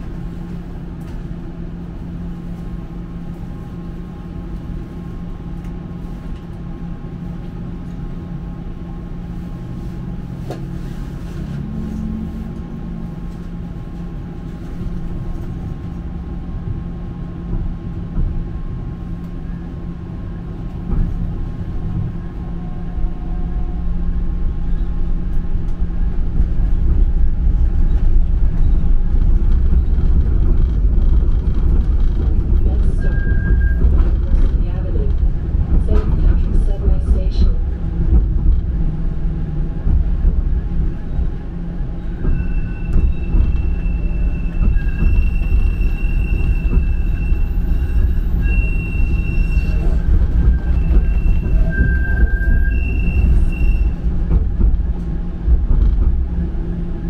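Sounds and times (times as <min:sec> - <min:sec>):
streetcar electrical hum: 0:00.0 - 0:57.0
wheels rumbling on rails: 0:00.0 - 0:57.0.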